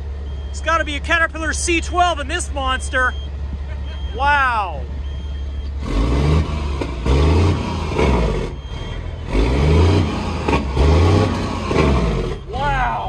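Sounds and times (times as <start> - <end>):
diesel truck engine idling and revving: 0.0 - 13.0.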